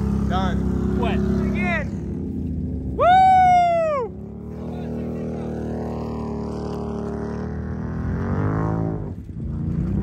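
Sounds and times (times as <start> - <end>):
utv engine revving: 0.0 - 10.0.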